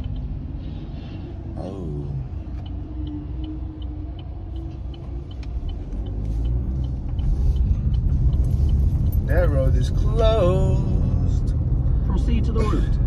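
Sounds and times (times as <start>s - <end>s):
light regular ticking: 0.0s - 12.6s
car engine and road rumble: 0.0s - 13.0s.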